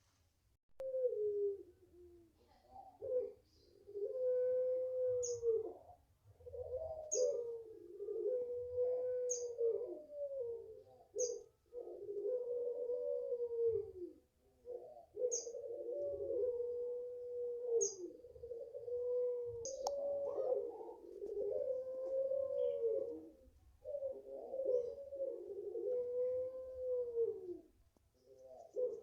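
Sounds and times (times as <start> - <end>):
turtle dove cooing: 0.8 - 29.0.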